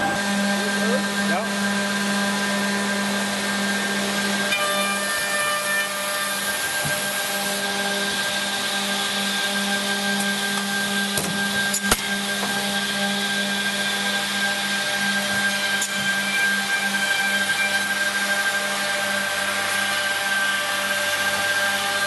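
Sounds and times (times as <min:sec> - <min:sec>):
machine motor hum and hiss: 0:00.0 - 0:22.0.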